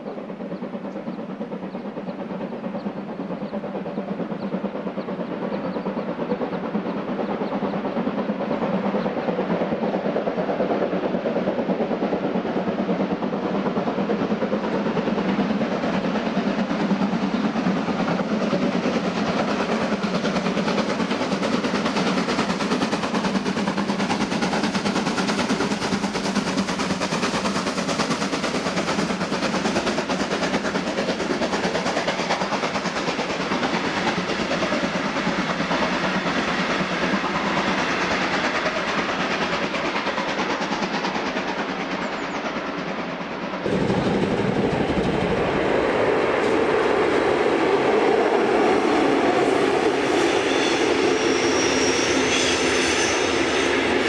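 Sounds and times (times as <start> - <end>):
steam train exhaust and running: 0.0 - 54.0.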